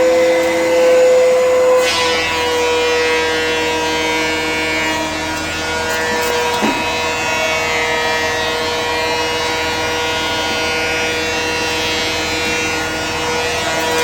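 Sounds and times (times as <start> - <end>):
wood planer motor whine: 0.0 - 14.0.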